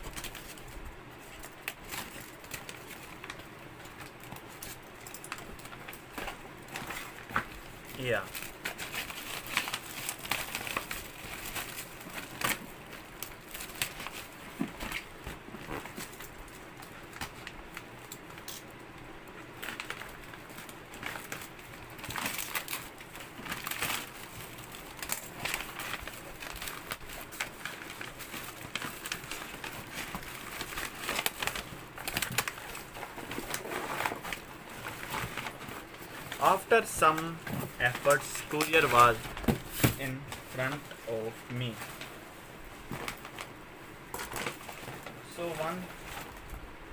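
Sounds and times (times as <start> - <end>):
plastic wrap crinkling: 0.0 - 46.9
cloth rustling: 4.8 - 16.6, 19.7 - 46.9.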